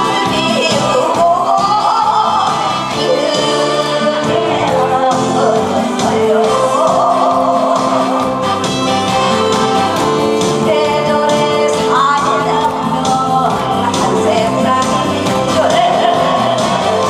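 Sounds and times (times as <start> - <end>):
music with a steady beat: 0.0 - 17.0
woman singing into a microphone: 0.0 - 17.0.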